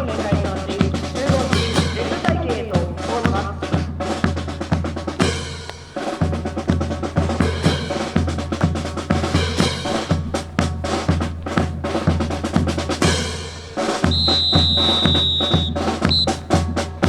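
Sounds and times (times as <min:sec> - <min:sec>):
bass drum beat: 0:00.0 - 0:17.0
drum-led music: 0:00.0 - 0:17.0
snare drum strikes: 0:01.2 - 0:17.0.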